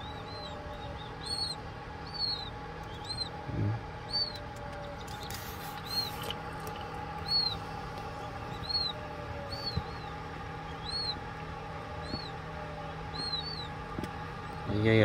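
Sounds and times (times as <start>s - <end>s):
incubator humming: 0.0s - 15.0s
quail chicks peeping: 0.0s - 15.0s.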